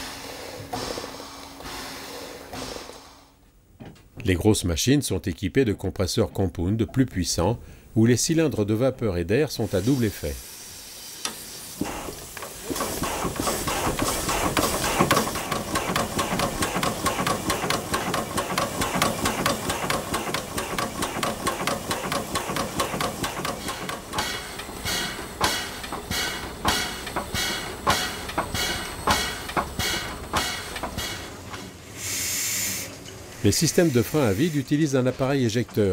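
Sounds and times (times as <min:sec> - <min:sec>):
air compressor steam puffs: 0:00.0 - 0:03.4, 0:09.5 - 0:35.9.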